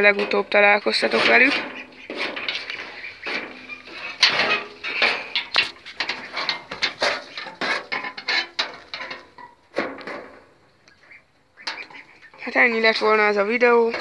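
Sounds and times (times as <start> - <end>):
goats jostling and clattering: 0.0 - 14.0.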